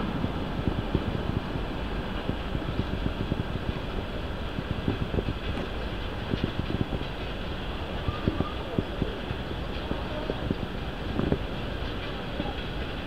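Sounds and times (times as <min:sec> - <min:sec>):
train rumbling past: 0:00.0 - 0:13.0
wheels knocking on rails: 0:00.0 - 0:13.0.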